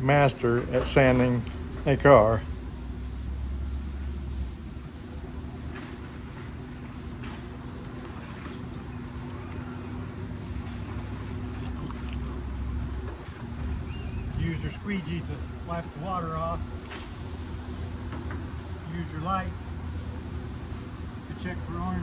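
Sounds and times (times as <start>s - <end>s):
sandpaper rubbing on car panel: 0.0s - 22.0s.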